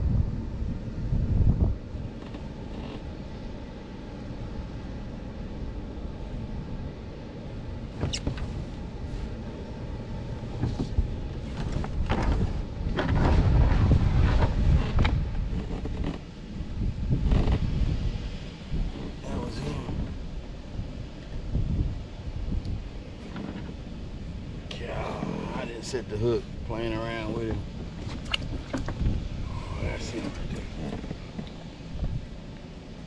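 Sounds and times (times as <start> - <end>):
wind buffeting microphone: 0.0 - 4.7, 5.8 - 33.0.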